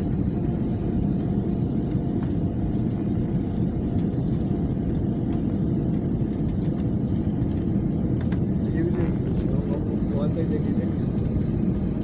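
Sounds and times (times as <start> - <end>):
faint steady whine: 0.0 - 12.0
plane engines roaring: 0.0 - 12.0.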